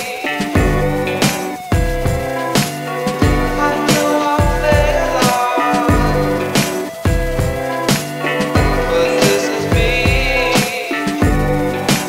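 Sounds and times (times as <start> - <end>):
drum beat with bass and chords: 0.0 - 12.0.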